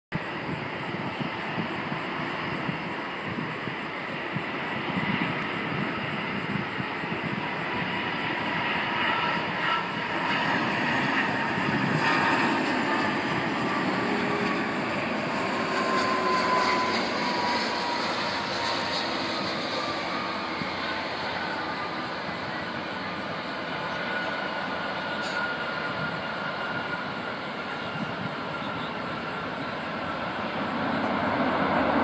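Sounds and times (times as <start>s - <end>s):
jet engines roaring: 0.2s - 32.0s.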